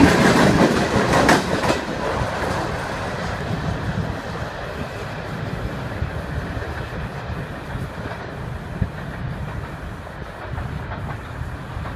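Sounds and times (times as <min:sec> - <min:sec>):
train wheels rumbling and clacking: 0:00.0 - 0:11.9.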